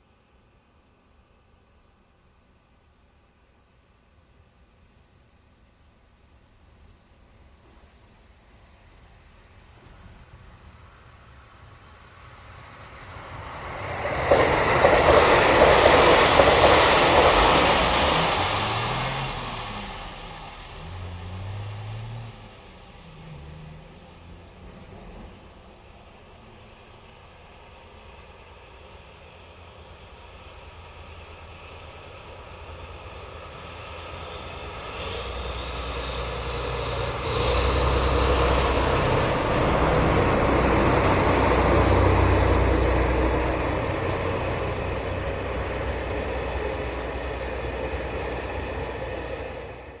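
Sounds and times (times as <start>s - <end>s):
train passing with rail noise: 0.0s - 50.0s.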